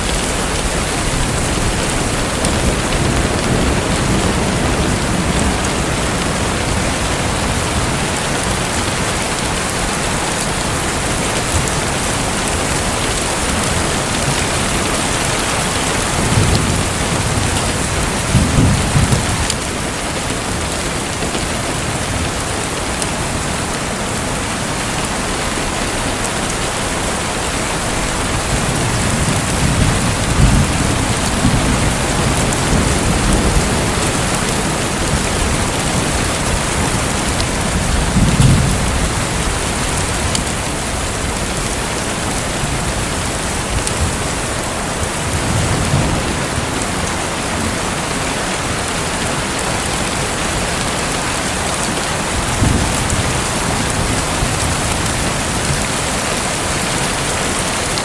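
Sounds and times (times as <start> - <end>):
rushing splashing water: 0.0 - 58.0.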